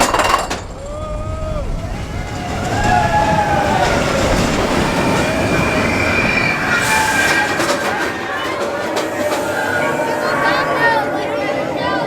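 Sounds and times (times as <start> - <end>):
roller coaster rumbling on track: 0.0 - 12.0
high wavering wheel squeals: 0.6 - 11.6.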